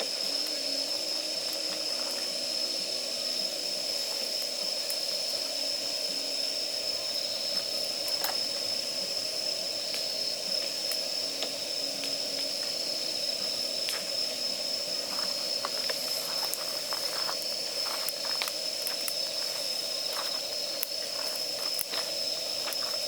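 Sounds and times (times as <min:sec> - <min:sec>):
damp firewood hissing and sizzling: 0:00.0 - 0:23.0
fire crackles: 0:00.0 - 0:23.0.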